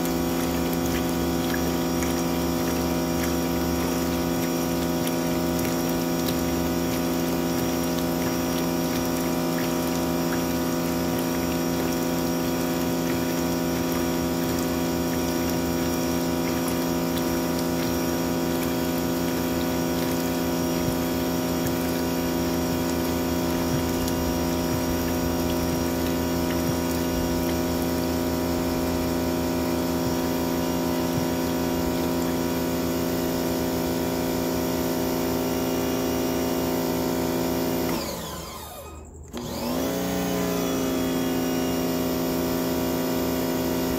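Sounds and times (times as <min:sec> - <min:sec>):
pressure washer humming: 0:00.0 - 0:43.9
water gushing into plastic tub: 0:00.0 - 0:43.9.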